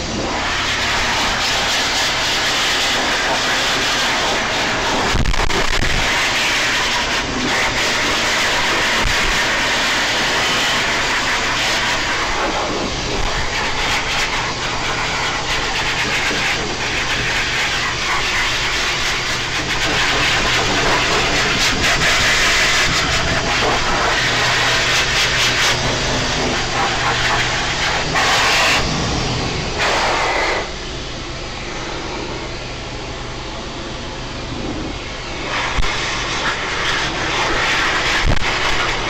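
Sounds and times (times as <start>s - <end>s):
dryer motor hum: 0.0s - 39.0s
pet dryer air rushing: 0.0s - 39.0s.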